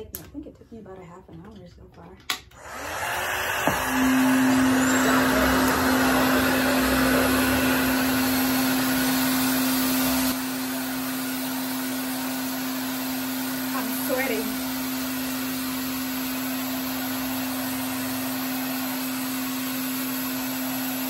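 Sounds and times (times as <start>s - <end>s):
hair dryer rushing air: 2.5s - 21.0s.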